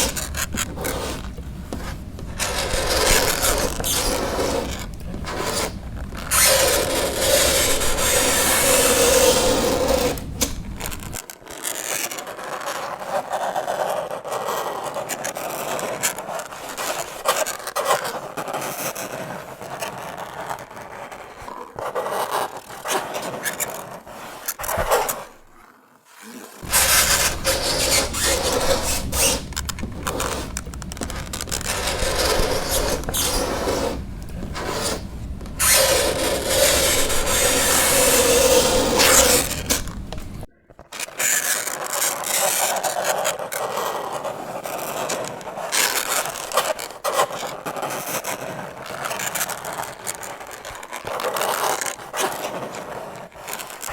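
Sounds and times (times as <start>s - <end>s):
fingernails scraping chalkboard: 0.0s - 11.2s, 18.6s - 25.4s, 26.6s - 50.4s, 51.1s - 53.9s.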